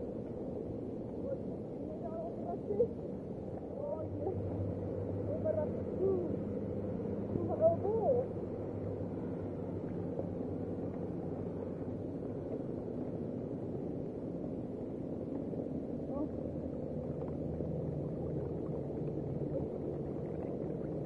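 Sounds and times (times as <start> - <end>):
rain: 0.0 - 21.0
wind: 0.0 - 21.0.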